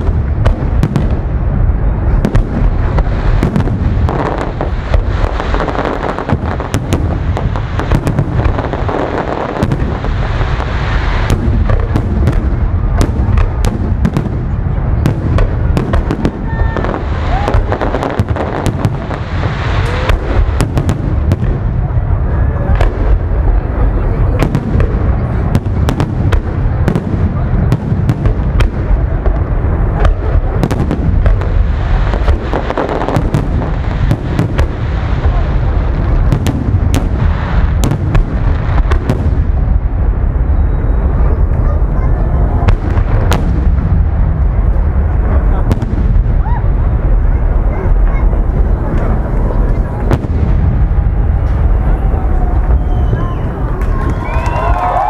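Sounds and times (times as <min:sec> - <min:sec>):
fireworks bangs and crackles: 0:00.0 - 0:55.0
low booming: 0:00.0 - 0:55.0.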